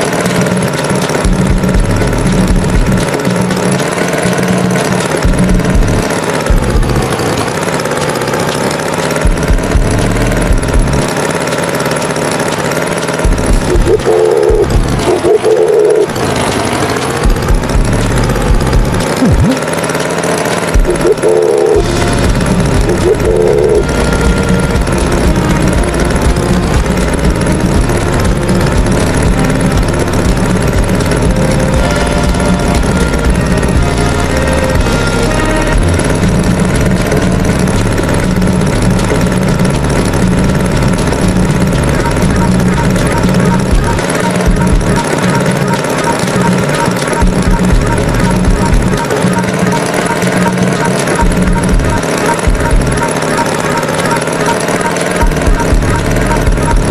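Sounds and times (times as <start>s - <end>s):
tractor engine idling: 0.0s - 56.9s.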